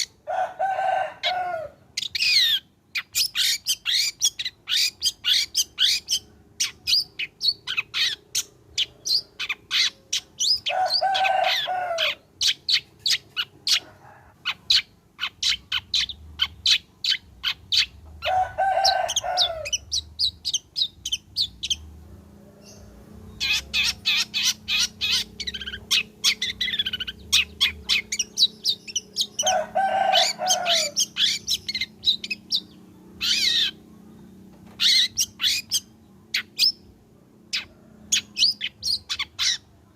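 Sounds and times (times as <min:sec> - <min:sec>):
bird chattering song: 0:00.0 - 0:00.2, 0:02.0 - 0:22.0, 0:22.6 - 0:36.9, 0:37.5 - 0:39.9
bird harsh rasping call: 0:00.0 - 0:21.8, 0:22.6 - 0:33.9, 0:34.8 - 0:36.8, 0:37.5 - 0:39.8.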